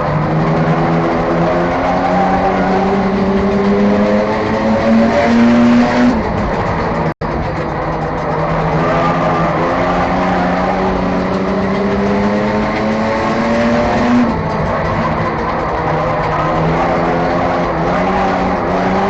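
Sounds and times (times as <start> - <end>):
race car engine running hard: 0.0 - 19.0
tyre and road noise: 0.0 - 19.0.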